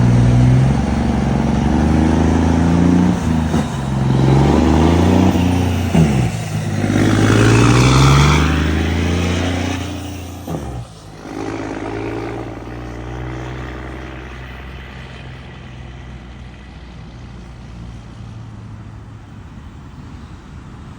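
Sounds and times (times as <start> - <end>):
truck diesel engine revving: 0.0 - 19.1.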